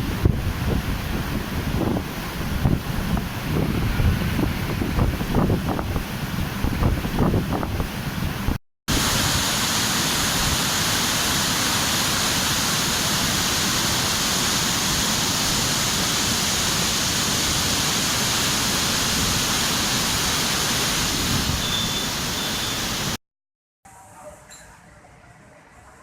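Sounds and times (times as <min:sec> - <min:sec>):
floodwater rushing: 0:00.0 - 0:23.2.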